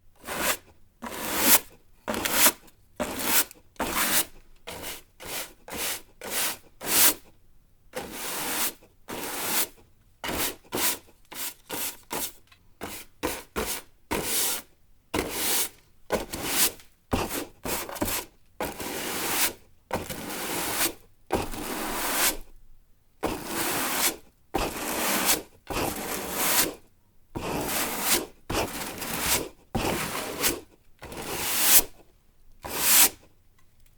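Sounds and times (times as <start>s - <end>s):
broom sweeping hard floor: 0.2s - 7.2s, 8.0s - 22.4s, 23.2s - 26.8s, 27.4s - 32.0s, 32.6s - 33.2s.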